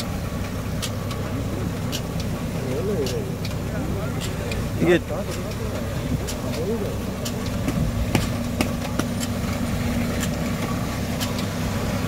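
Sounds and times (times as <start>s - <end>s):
planter mechanism clicking and rattling: 0.0s - 12.0s
tractor engine running: 0.0s - 12.0s.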